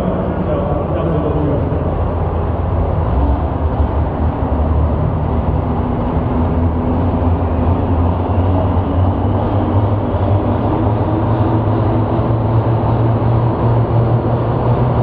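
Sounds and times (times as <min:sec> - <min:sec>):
vehicle engine running loud: 0:00.0 - 0:15.0.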